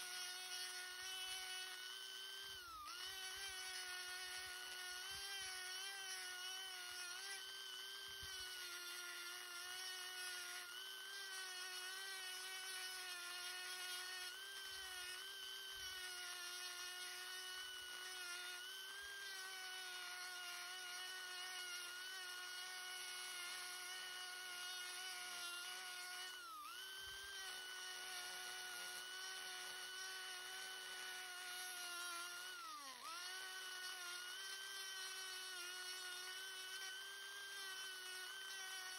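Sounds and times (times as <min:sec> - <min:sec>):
rotary tool grinding wood: 0:00.0 - 0:38.9.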